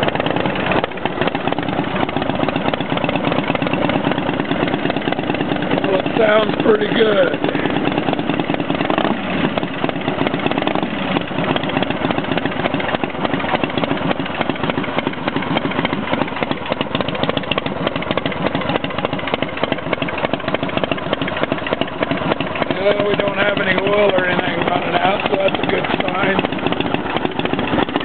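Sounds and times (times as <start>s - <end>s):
motorcycle engine fast idle: 0.0s - 28.0s.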